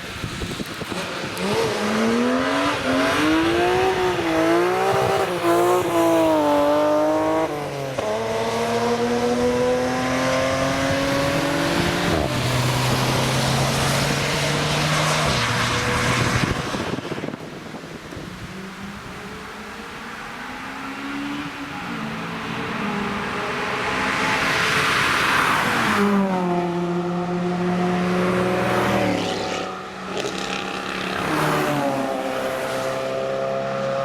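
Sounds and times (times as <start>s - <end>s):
car engine accelerating: 0.6s - 34.0s.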